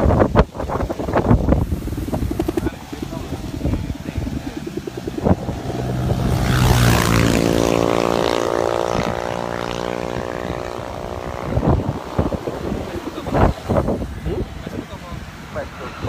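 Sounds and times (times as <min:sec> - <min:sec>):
kite hummer drone: 0:00.0 - 0:16.0.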